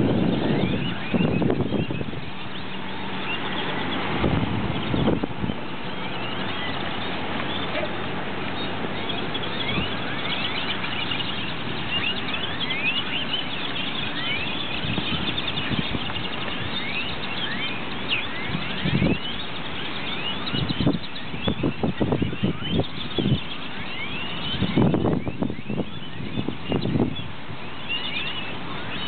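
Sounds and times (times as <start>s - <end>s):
flock of birds chirping: 0.0s - 29.0s.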